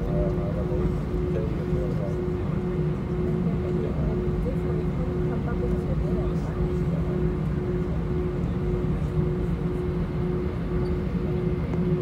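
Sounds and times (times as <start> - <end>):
aircraft cabin engine rumble: 0.0 - 12.0
pulsing hum: 0.0 - 12.0.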